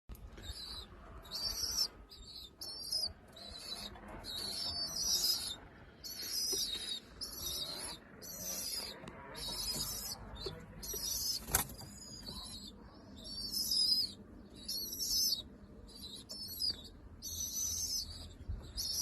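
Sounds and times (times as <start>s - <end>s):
pigeon chicks squeaking: 0.3s - 19.0s.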